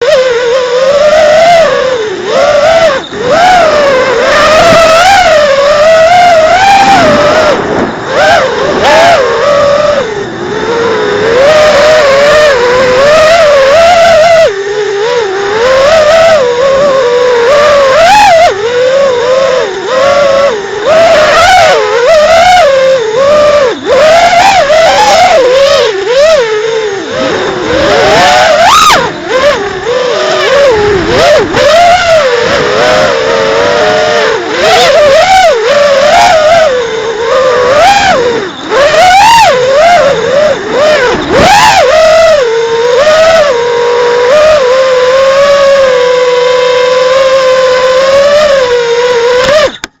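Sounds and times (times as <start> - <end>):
quadcopter motors whining: 0.0 - 50.0.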